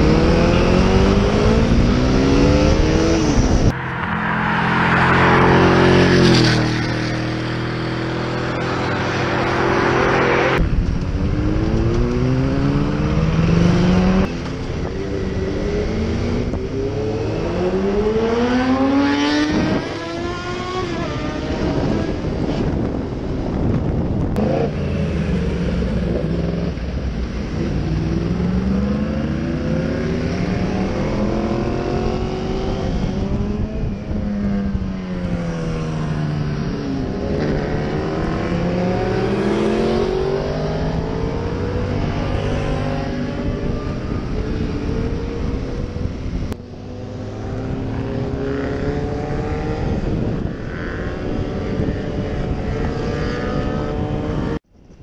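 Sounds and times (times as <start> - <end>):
motorcycle engine accelerating: 0.0 - 54.6
wind rush: 0.0 - 54.6.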